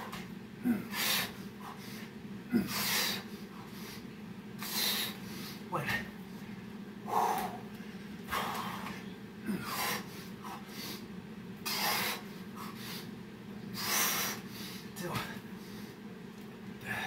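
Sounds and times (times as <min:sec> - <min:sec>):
heavy forceful breathing: 0:00.0 - 0:06.2, 0:07.0 - 0:16.0, 0:16.8 - 0:17.0.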